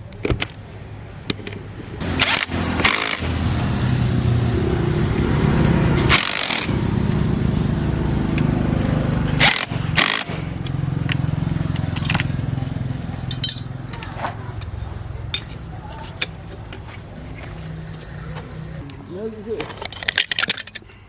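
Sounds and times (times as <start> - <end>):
diesel truck engine chugging: 2.0 - 19.5.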